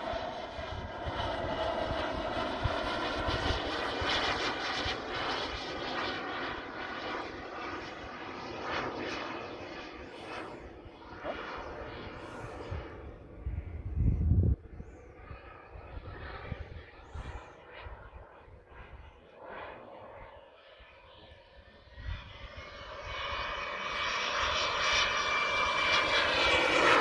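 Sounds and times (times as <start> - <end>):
model jet turbine engine: 0.0 - 27.0.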